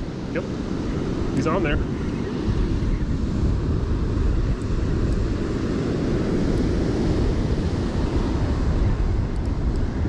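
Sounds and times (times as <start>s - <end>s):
ocean surf washing onto beach: 0.0s - 10.0s
wind buffeting microphone: 0.0s - 10.0s.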